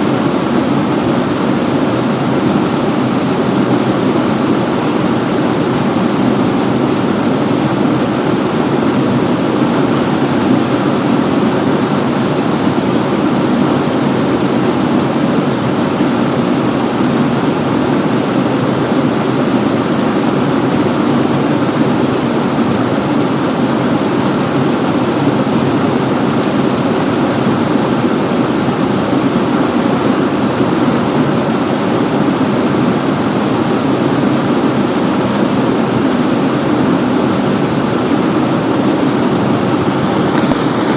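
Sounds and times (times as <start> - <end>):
waterfall rushing: 0.0 - 33.6, 34.5 - 40.9.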